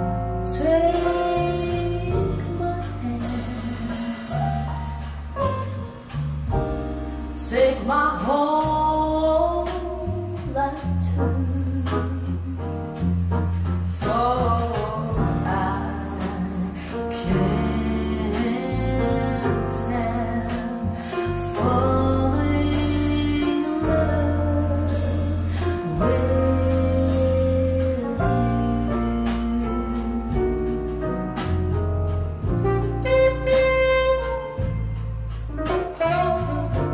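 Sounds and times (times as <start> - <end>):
light percussion: 0.0 - 36.9
song with singing and bass: 0.0 - 36.9.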